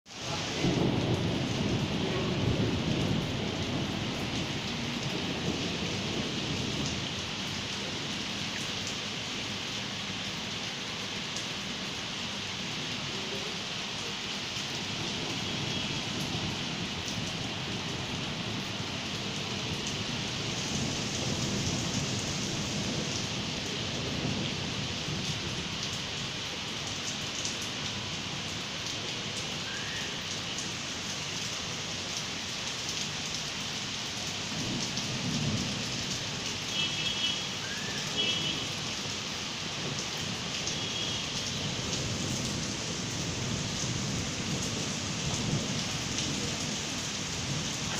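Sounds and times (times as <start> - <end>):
rain falling: 0.1 - 47.9.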